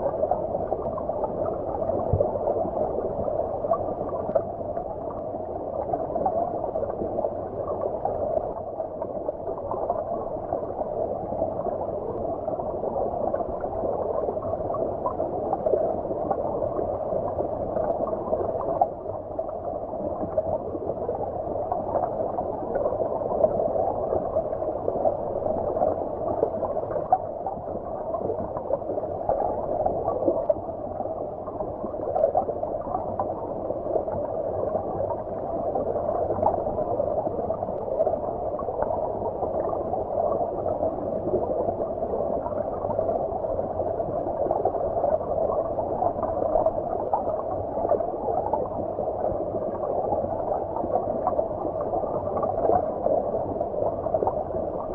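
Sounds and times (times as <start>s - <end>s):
muffled underwater stream gurgling: 0.0s - 54.9s.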